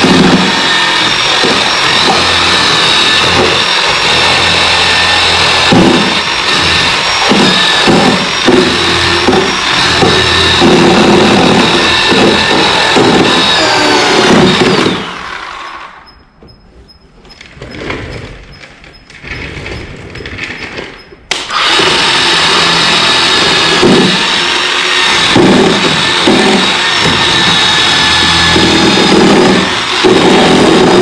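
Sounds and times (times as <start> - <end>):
chainsaw cutting wood: 0.0 - 16.1, 21.3 - 31.0.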